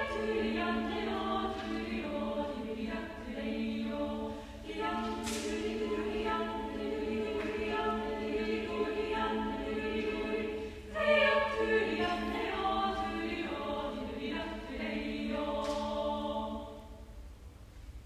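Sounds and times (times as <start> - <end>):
women's choir singing a cappella: 0.0 - 17.3.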